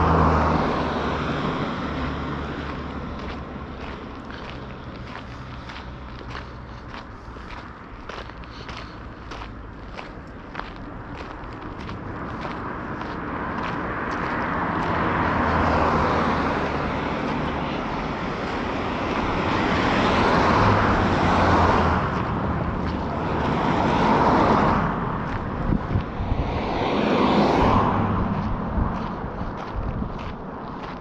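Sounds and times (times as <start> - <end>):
vehicles passing: 0.0 - 31.0.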